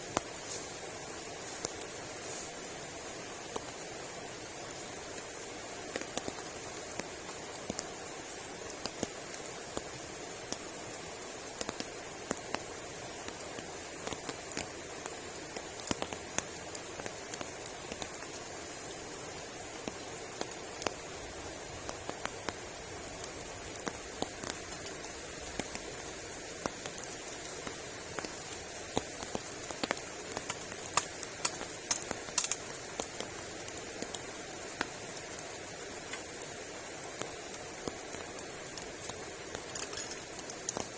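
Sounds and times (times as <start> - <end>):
raindrops tapping: 0.0 - 18.6, 19.4 - 40.9
steady rain: 0.0 - 40.9.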